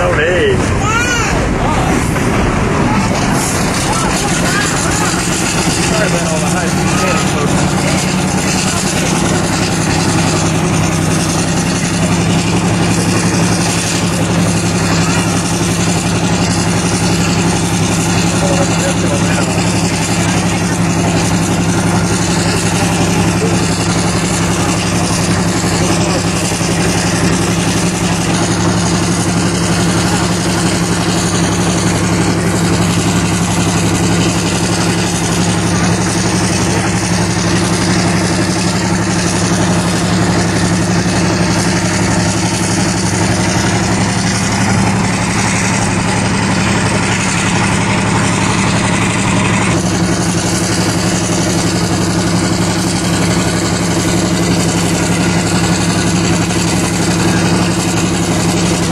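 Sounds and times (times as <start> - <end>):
diesel locomotive engine droning: 0.0 - 58.9
moving train rumble: 0.0 - 58.9.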